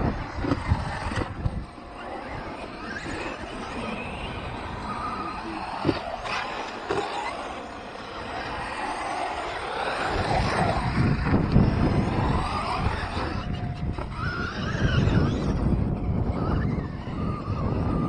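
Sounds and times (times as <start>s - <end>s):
electric motors whining: 0.0s - 18.0s
wind buffeting microphone: 0.0s - 18.0s.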